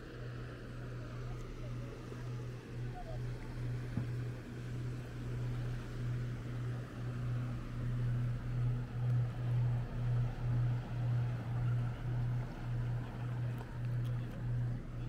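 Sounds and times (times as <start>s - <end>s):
water rumbling around kayak: 0.0s - 15.0s.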